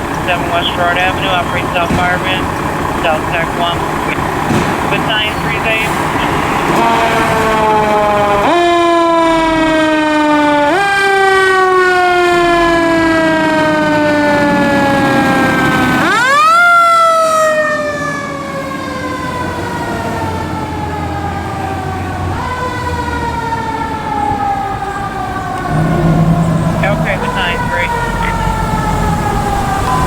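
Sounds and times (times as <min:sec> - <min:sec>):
fire engine siren winding: 0:00.0 - 0:30.0.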